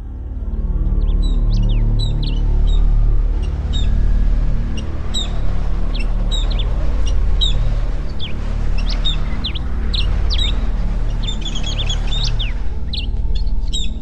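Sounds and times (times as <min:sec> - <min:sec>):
background music with held tones: 0:00.0 - 0:14.0
songbirds chirping: 0:00.0 - 0:14.0.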